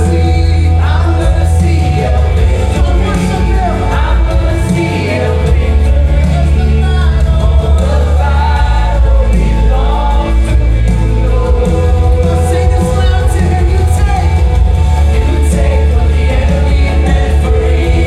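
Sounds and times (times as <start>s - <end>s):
heavy bass line: 0.0s - 18.0s
voices singing: 0.0s - 18.0s
worship band playing loudly: 0.0s - 18.0s.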